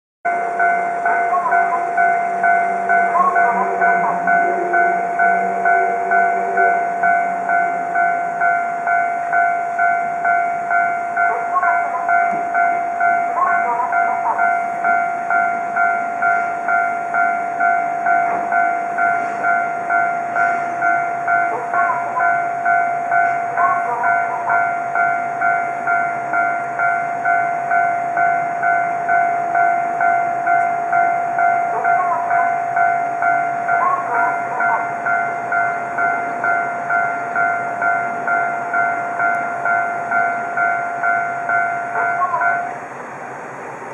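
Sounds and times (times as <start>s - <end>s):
level crossing bell dinging: 0.3s - 43.2s.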